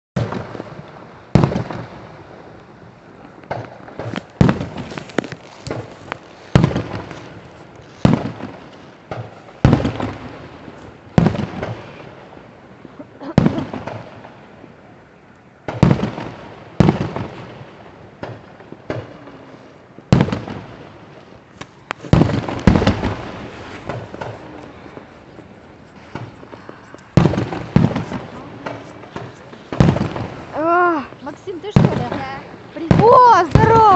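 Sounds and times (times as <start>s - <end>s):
fireworks bangs: 0.2s - 14.8s, 15.6s - 33.9s.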